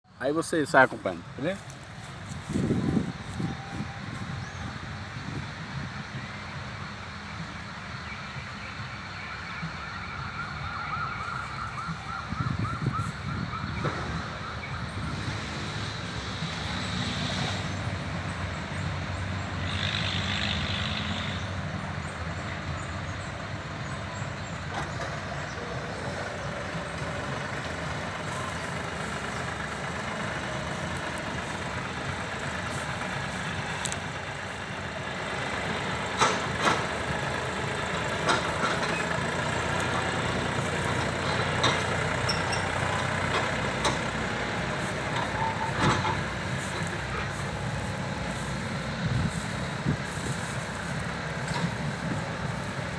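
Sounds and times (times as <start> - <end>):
tractor engine running: 0.0 - 8.1, 14.9 - 52.9.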